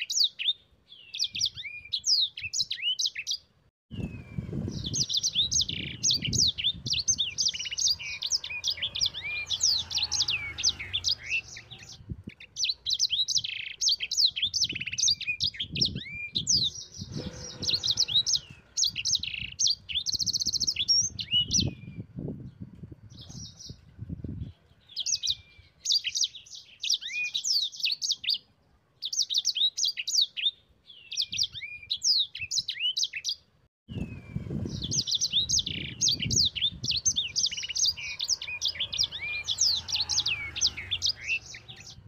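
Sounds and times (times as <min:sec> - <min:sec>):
canary singing: 0:00.0 - 0:22.2, 0:24.5 - 0:28.5, 0:29.1 - 0:42.0.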